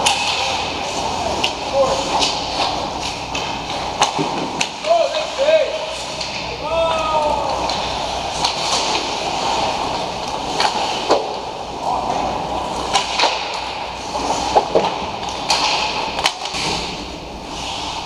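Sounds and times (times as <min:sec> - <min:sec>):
skate blades scraping ice: 0:00.0 - 0:06.4, 0:07.4 - 0:18.0
hockey sticks and puck clacking: 0:00.0 - 0:18.0.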